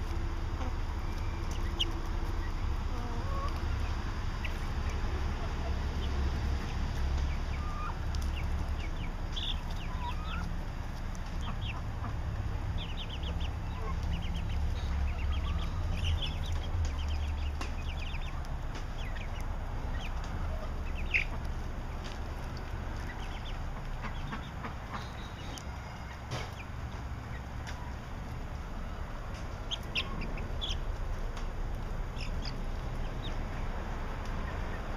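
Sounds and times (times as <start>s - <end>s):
chicks cheeping: 0.0s - 34.9s.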